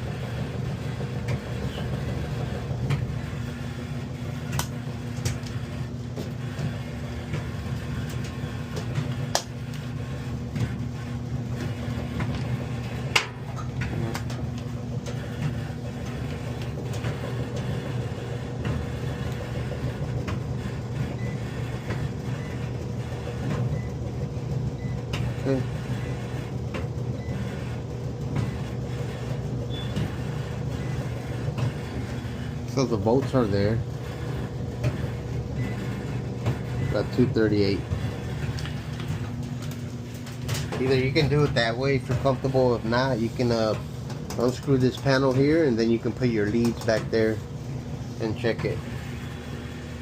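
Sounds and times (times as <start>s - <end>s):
electric dryer humming: 0.0s - 50.0s.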